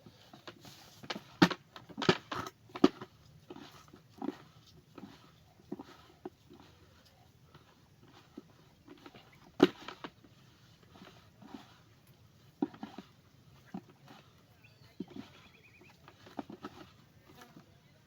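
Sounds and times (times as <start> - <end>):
hands mixing wet mash: 0.0 - 18.0.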